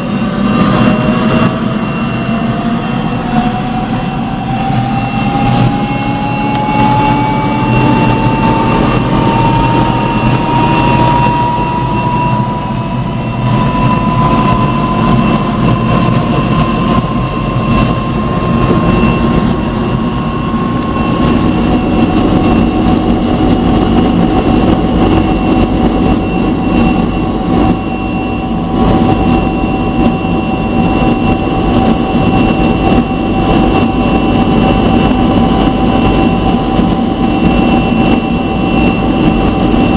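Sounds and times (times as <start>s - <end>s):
helicopter engine and rotor noise: 0.0s - 39.9s
high turbine whine: 0.0s - 39.9s.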